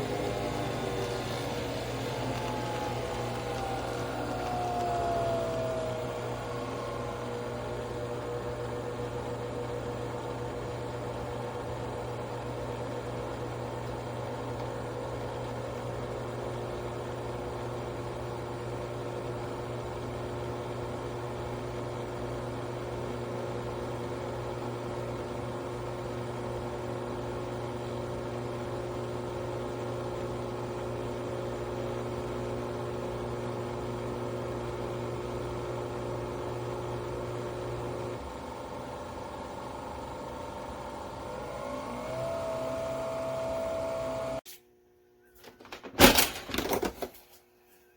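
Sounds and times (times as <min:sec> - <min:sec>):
coffee machine whirring hum: 0:00.0 - 0:47.9.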